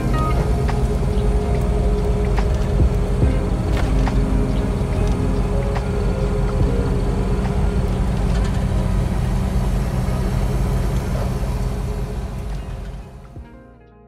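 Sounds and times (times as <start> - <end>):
diesel engine running: 0.0 - 13.5.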